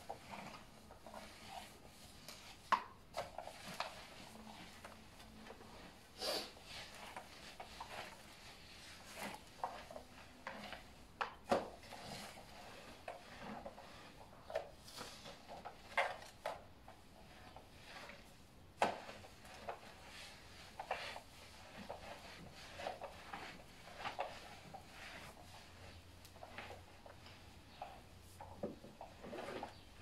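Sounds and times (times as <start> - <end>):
mop knocking and scraping on tiles: 0.0 - 30.0.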